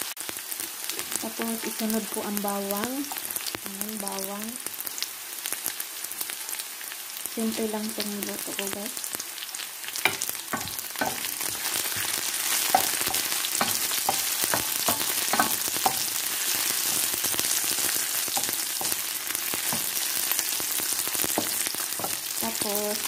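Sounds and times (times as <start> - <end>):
onions sizzling in hot oil: 0.0 - 23.0.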